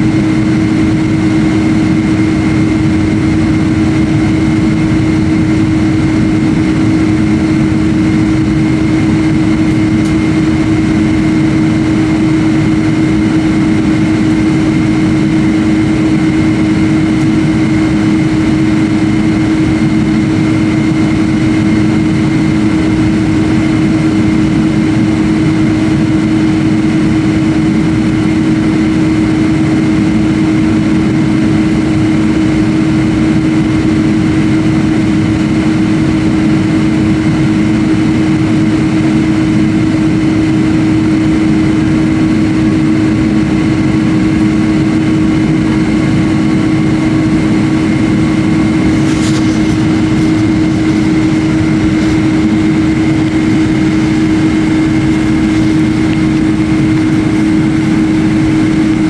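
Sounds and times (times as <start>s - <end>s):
high whine: 0.0s - 59.0s
jet engine drone: 0.0s - 59.0s
low hum: 0.0s - 59.0s.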